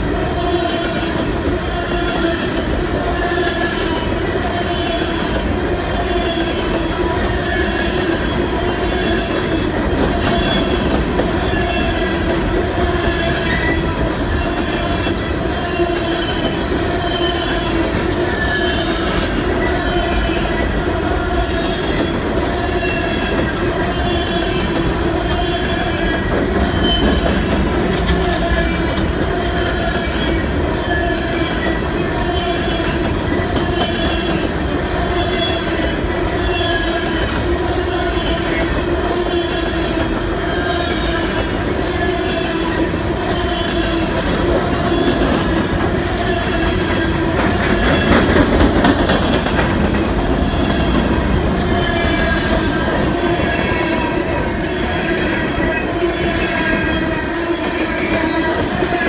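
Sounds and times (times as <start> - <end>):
steel wheels rumbling on rail: 0.0 - 59.0
squealing wheels: 0.2 - 59.0.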